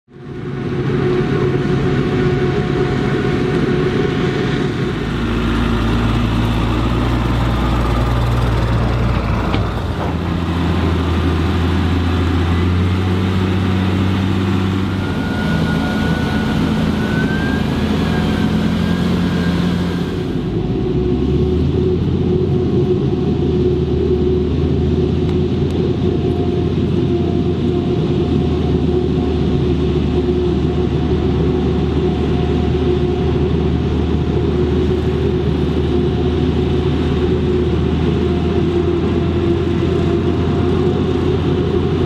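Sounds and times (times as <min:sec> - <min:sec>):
diesel engines running under load: 0:00.1 - 0:42.0
faint rising whine: 0:00.1 - 0:42.0.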